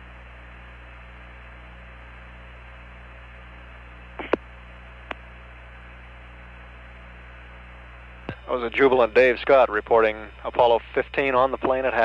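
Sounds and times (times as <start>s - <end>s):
radio hum and hiss: 0.0s - 12.0s.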